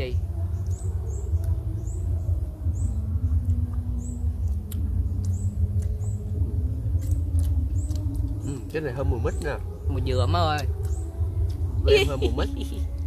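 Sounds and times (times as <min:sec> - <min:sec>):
low rumble: 0:00.0 - 0:13.0
small animal chirping: 0:00.0 - 0:13.0.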